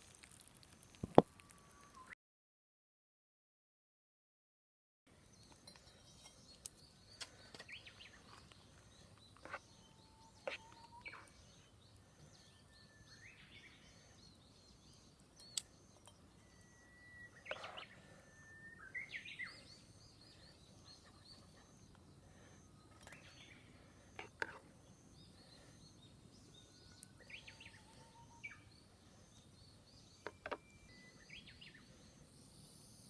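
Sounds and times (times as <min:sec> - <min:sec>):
birds chirping and whistling: 0:05.4 - 0:33.0.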